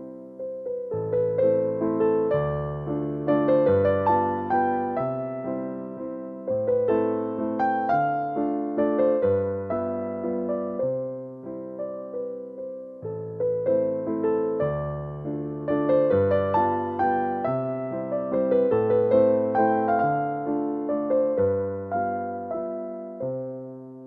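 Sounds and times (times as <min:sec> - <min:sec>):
electric piano music: 0:00.0 - 0:24.0.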